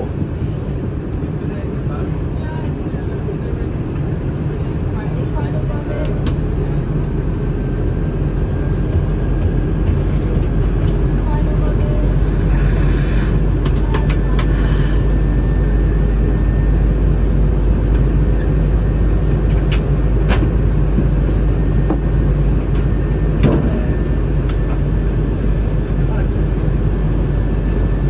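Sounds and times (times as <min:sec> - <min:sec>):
airliner cabin airflow roar: 0:00.0 - 0:28.0
jet engine noise: 0:00.0 - 0:28.0.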